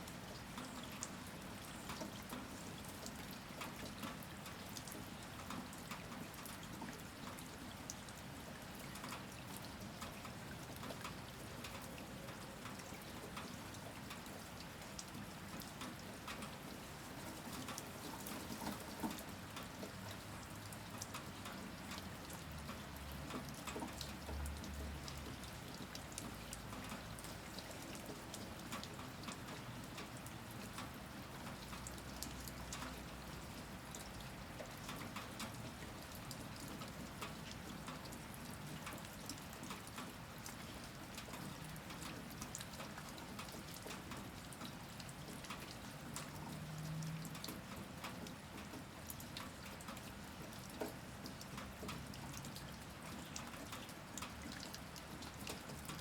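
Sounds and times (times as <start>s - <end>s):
rain dripping on hard surfaces: 0.0s - 56.0s.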